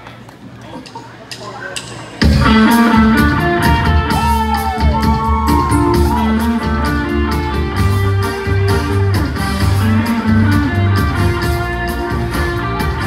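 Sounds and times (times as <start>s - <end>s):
slow ballad band music: 2.2s - 13.0s.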